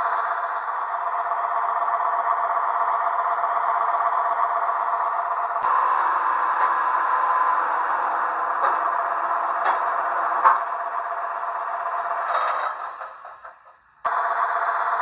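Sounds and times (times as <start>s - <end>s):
tinny diesel engine sound from loudspeaker: 0.0s - 15.0s.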